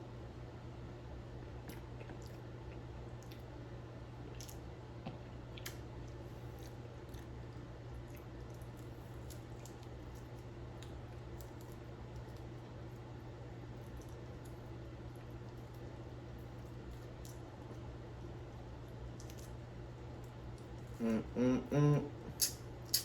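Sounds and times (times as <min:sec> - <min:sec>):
chewing and squishy mouth sounds: 0:01.6 - 0:23.0.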